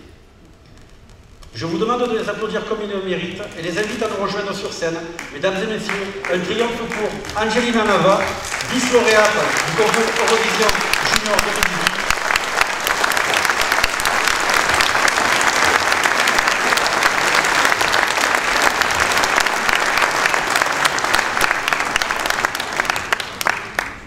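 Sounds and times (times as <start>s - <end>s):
audience applauding: 3.5s - 24.0s.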